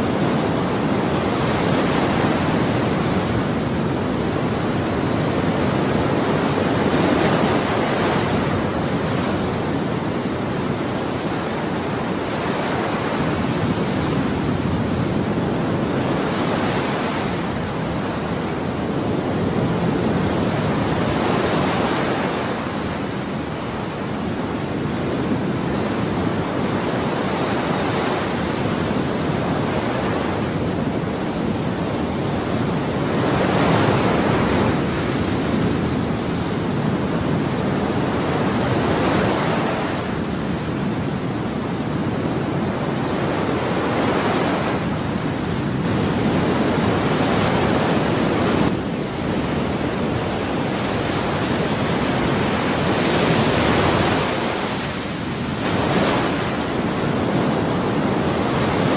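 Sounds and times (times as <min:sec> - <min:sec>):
ocean waves breaking on shore: 0:00.0 - 0:58.9.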